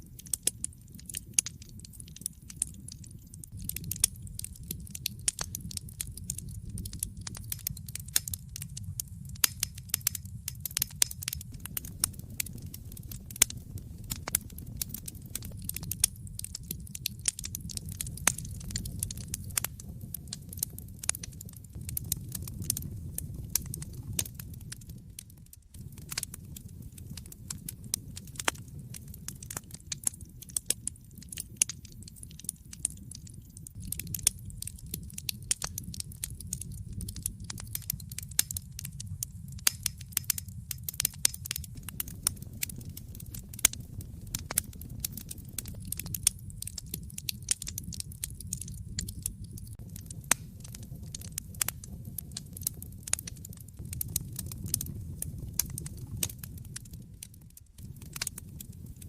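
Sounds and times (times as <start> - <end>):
crackles and pops of burning logs: 0.0 - 59.0
low rumble of flames: 0.0 - 59.0.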